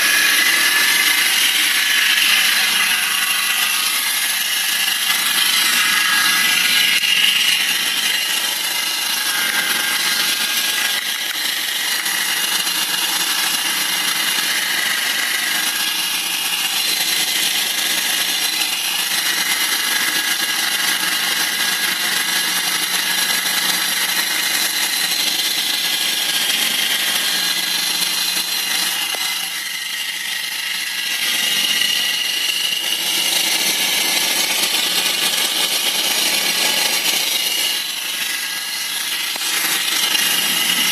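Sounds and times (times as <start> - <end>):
high-pitched mechanical noise: 0.0 - 40.9.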